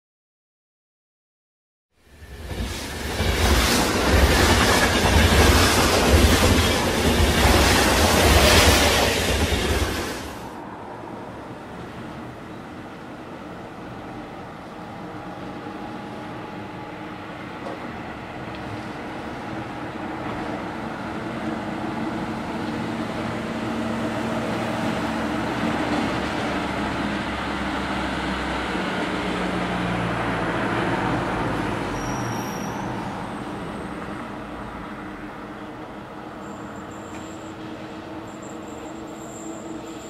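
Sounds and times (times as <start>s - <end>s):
cars passing on road: 2.0s - 40.0s.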